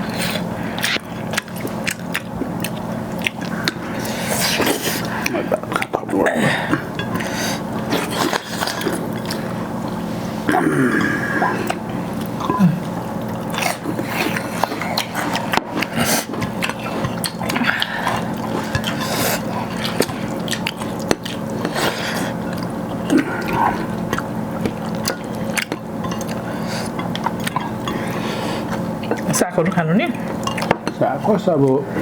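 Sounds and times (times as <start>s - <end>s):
chewing with wet smacks: 0.0s - 10.0s, 11.4s - 31.8s.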